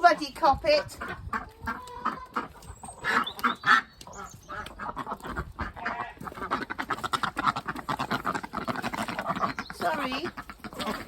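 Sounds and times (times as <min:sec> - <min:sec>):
ducks giving alarm quacks: 0:00.0 - 0:11.0.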